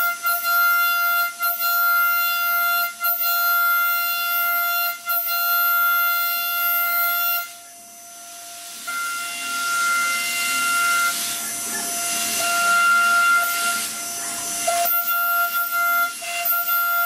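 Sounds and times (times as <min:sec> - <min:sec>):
cutting tool whining: 0:00.0 - 0:17.0.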